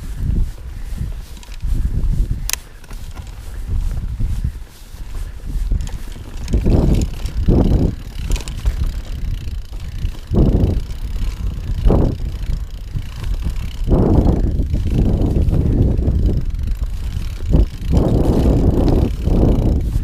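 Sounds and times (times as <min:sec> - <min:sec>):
bike tyre rumble: 0:00.0 - 0:20.0
wind on microphone: 0:00.0 - 0:20.0
bike rattling over rocks: 0:01.1 - 0:20.0.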